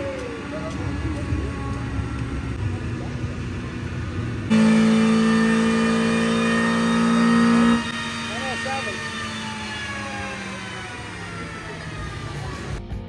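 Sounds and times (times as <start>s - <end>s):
car engine revving high: 0.0s - 12.8s.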